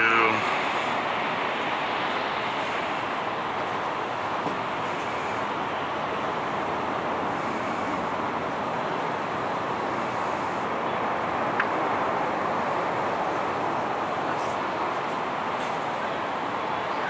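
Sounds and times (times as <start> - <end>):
distant traffic roar: 0.0 - 17.0
jet engines taxiing: 0.0 - 17.0.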